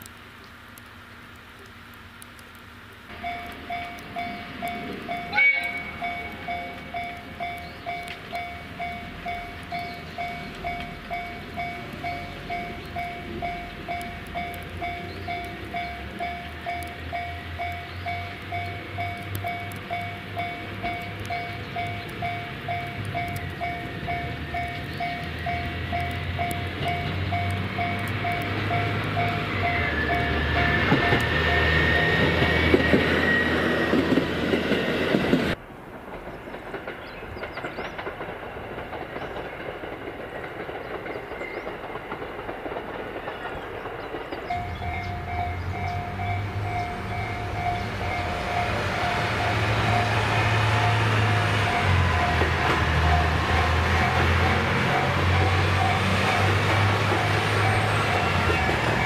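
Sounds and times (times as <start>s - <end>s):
diesel railcar running: 0.1s - 59.0s.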